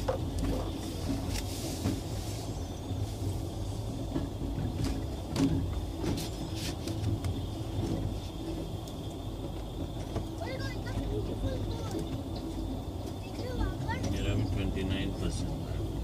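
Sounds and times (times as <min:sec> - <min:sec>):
train coach rumble: 0:00.0 - 0:16.0.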